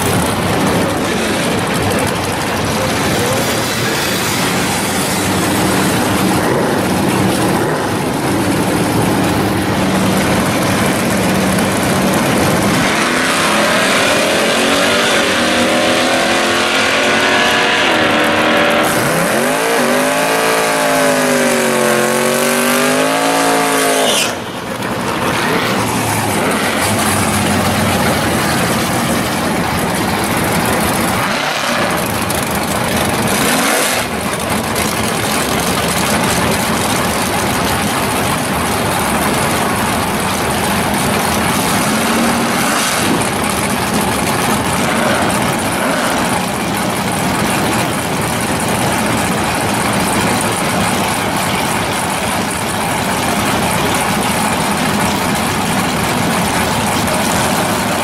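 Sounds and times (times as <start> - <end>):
drag car engines revving: 0.0 - 58.0.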